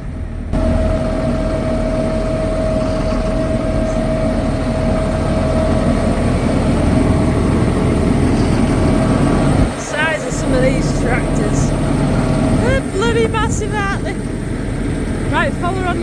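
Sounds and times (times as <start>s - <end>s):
diesel tractor engine idling: 0.0s - 16.0s.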